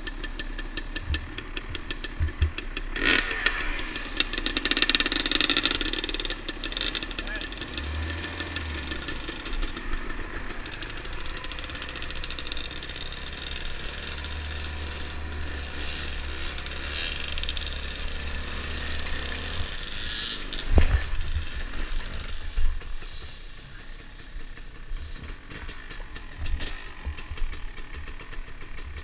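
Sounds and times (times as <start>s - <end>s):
dirt bike engine: 0.0s - 29.0s.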